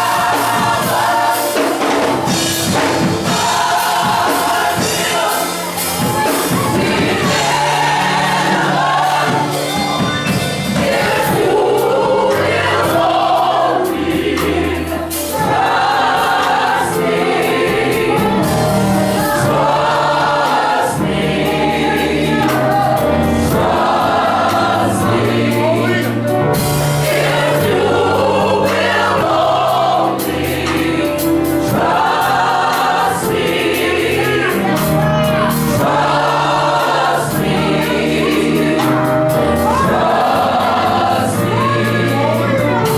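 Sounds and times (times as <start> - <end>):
gospel choir singing: 0.0 - 42.9
keyboard and percussion: 0.0 - 42.9.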